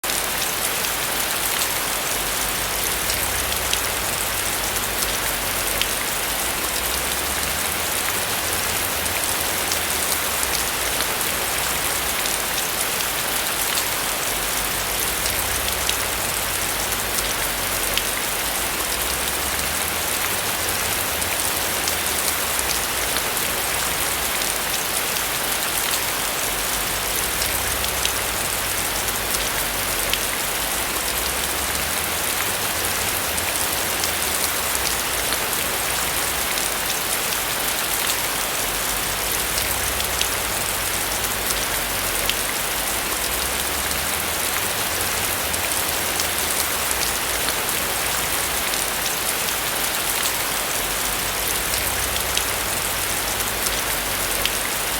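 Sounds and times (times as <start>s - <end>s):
rain on a roof: 0.0s - 54.9s.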